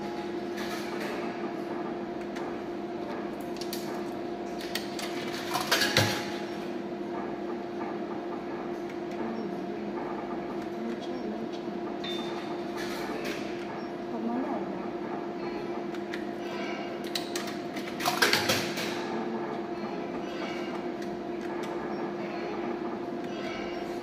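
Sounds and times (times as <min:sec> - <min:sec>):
slot machine electronic hum: 0:00.0 - 0:24.0.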